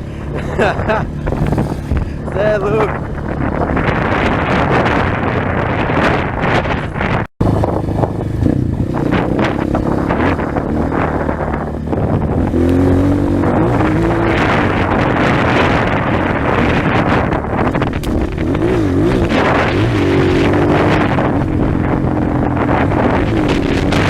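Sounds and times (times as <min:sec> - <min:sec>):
dirt bike engine revving: 0:00.0 - 0:24.0
wind noise on microphone: 0:00.0 - 0:24.0.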